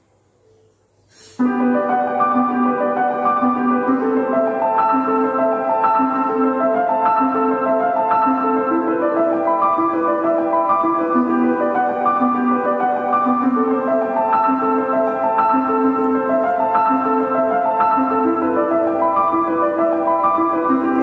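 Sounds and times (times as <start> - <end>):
keyboard instrumental music: 1.4 - 21.0.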